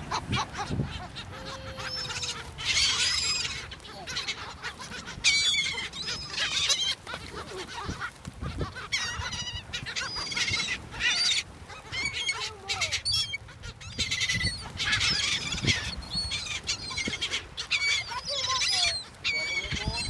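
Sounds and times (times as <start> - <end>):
flock of birds calling: 0.0 - 20.0.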